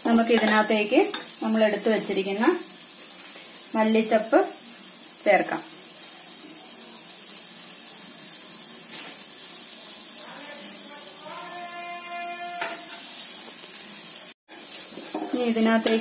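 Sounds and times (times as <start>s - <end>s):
masala sizzling in oil: 0.0s - 16.0s.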